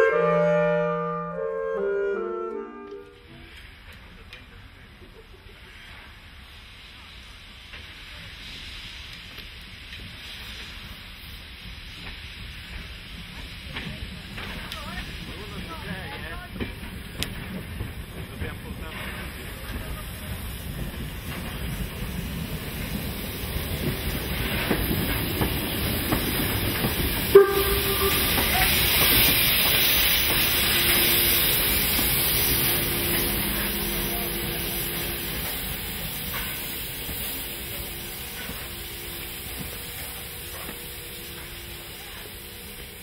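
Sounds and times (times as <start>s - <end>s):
steam locomotive hissing: 1.6s - 43.0s.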